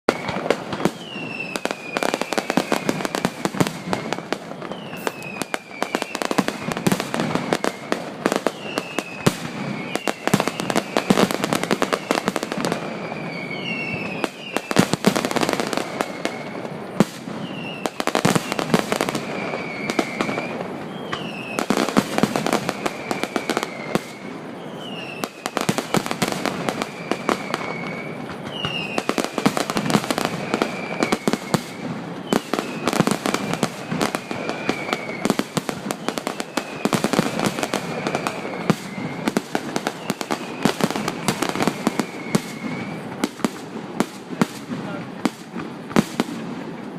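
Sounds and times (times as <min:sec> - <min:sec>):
falling firework whistle: 0:00.0 - 0:46.9
firework bangs and crackles: 0:00.0 - 0:46.9.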